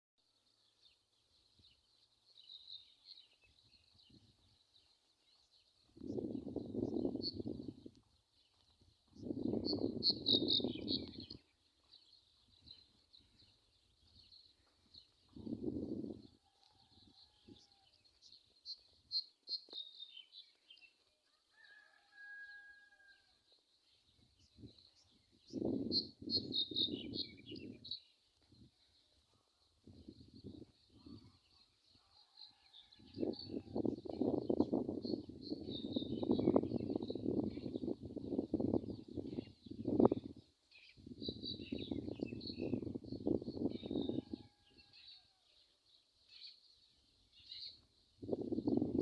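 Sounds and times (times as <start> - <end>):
small birds chirping and twittering: 0.2 - 49.0.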